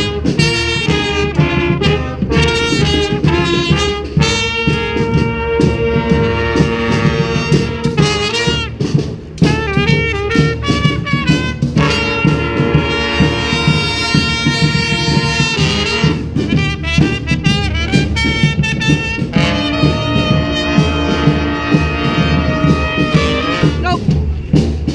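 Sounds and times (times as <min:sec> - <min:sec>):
brass band playing rock tune: 0:00.0 - 0:24.9.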